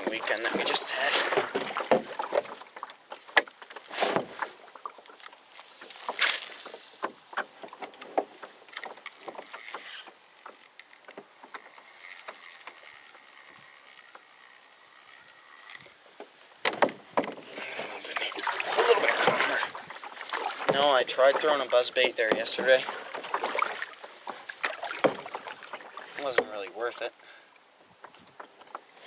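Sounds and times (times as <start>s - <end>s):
water splashing around boat: 0.0s - 29.0s.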